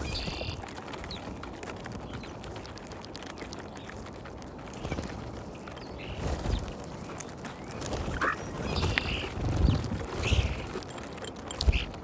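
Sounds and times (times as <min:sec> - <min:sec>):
bills tapping at seed: 0:00.0 - 0:12.0.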